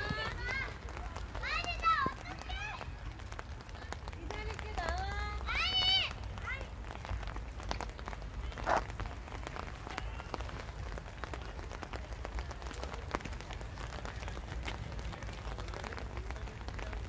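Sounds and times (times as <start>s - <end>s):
drops ticking on hard surfaces: 0.0s - 17.0s
rain falling: 0.0s - 17.0s.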